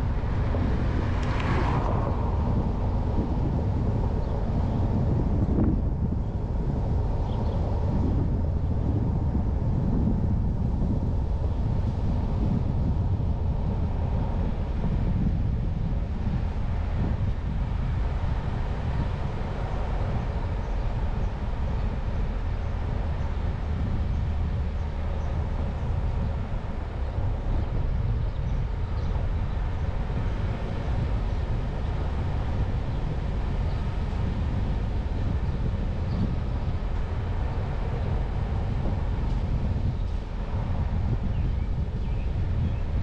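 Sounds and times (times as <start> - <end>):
car road and wind noise: 0.0 - 43.0.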